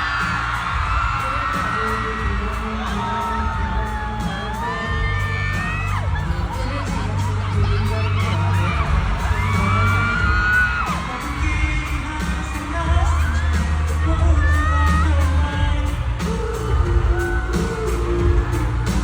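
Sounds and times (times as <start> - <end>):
crowd screaming: 0.0 - 19.0
pop song over sound system: 0.0 - 19.0.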